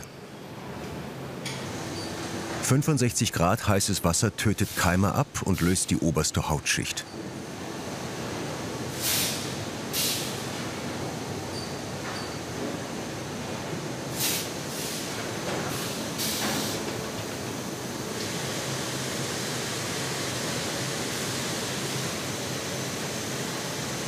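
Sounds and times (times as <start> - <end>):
industrial machinery noise: 0.0 - 24.0.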